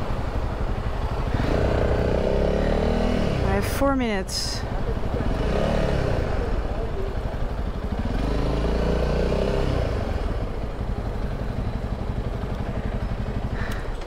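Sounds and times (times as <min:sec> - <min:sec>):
motorcycle engine at low revs: 0:00.0 - 0:14.0.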